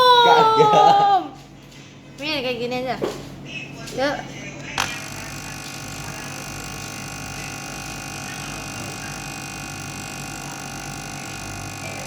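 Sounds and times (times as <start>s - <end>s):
electric device humming: 0.0s - 12.0s.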